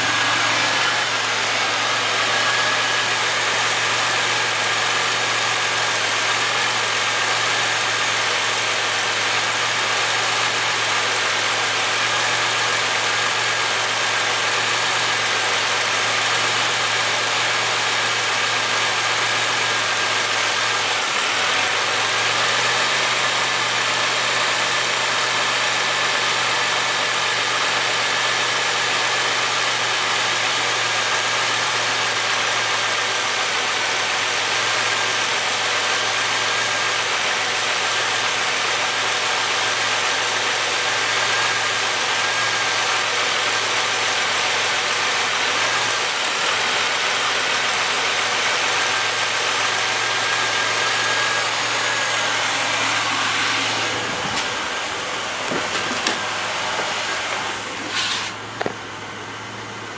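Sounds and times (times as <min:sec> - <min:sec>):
car engine rough idling: 0:00.0 - 0:59.9.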